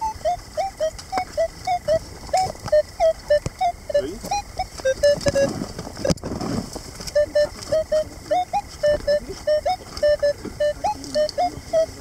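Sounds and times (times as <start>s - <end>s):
metal detector beeping: 0.0s - 6.2s, 7.1s - 12.0s.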